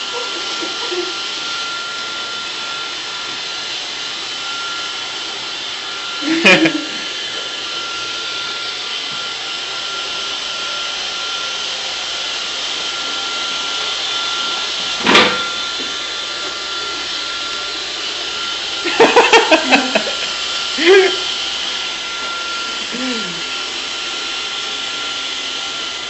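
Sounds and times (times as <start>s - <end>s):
robot vacuum whirring: 0.0s - 26.0s.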